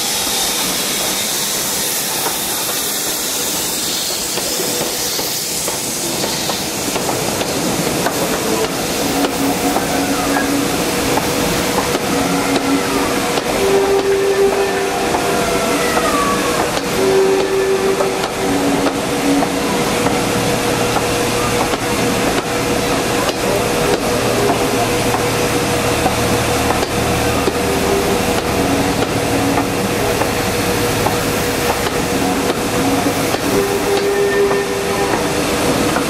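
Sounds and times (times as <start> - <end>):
train coaches rolling past: 0.0 - 36.0.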